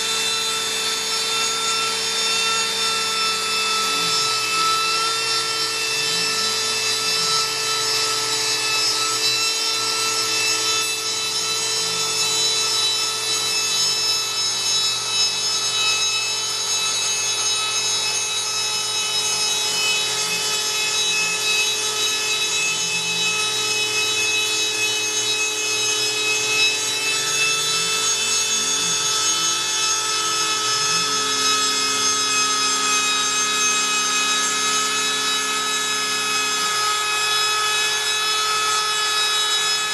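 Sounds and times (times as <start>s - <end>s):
router spindle whining: 0.0s - 39.9s
bit grinding through material: 0.8s - 38.7s
motor tones rising and falling: 2.2s - 38.7s.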